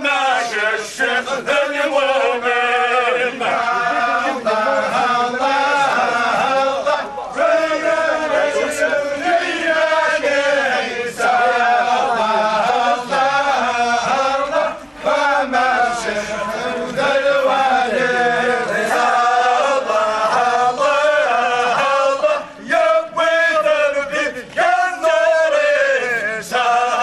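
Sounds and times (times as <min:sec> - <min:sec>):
men chanting together: 0:00.0 - 0:27.0.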